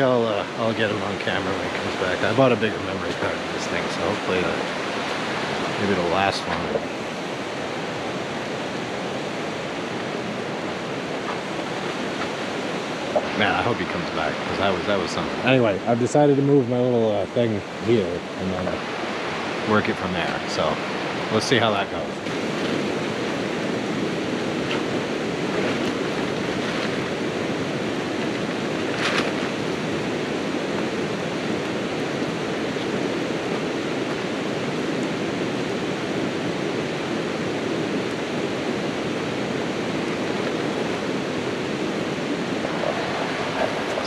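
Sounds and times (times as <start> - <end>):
stream water rushing: 0.0 - 44.0.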